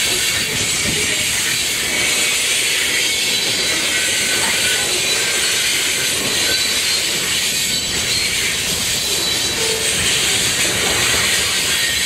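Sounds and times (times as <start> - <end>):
steel wheels on rails: 0.0 - 12.0
faint thin wheel squeals: 0.1 - 12.0.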